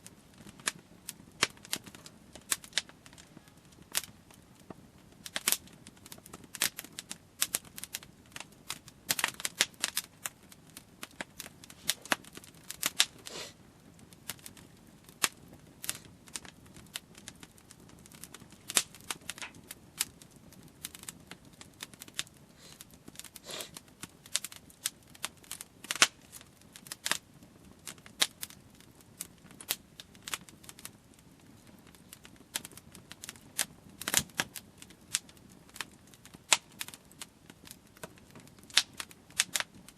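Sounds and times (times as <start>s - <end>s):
burning wood snapping and popping: 0.0s - 39.9s
low rush of flames: 0.0s - 39.9s.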